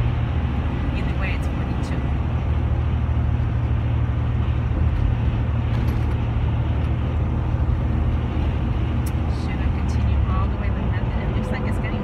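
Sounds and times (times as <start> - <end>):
vehicle engine and tyre drone: 0.0 - 12.0.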